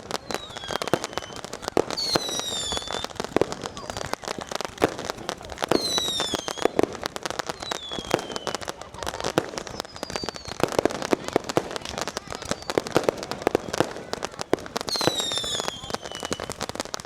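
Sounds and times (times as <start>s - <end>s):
fireworks crackling bangs: 0.0s - 17.0s
whistling fireworks: 0.0s - 17.0s.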